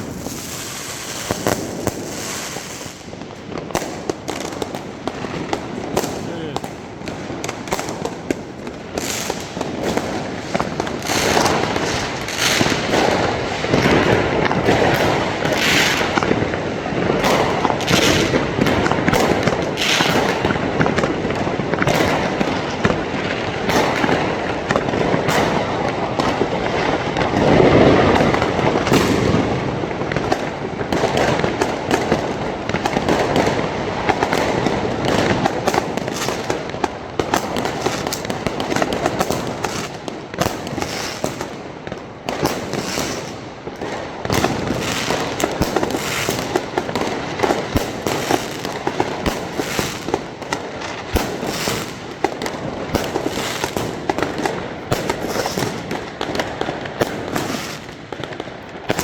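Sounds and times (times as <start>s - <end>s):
fireworks and firecrackers crackling: 0.0s - 59.0s.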